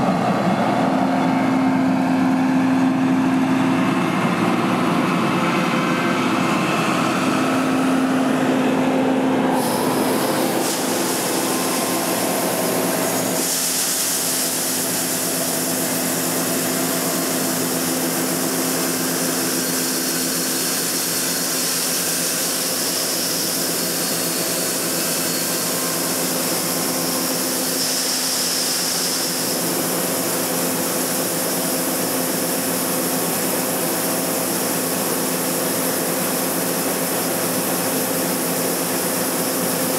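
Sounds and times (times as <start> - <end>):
combine harvester hum: 0.0 - 39.9
harvester hiss: 6.2 - 39.9.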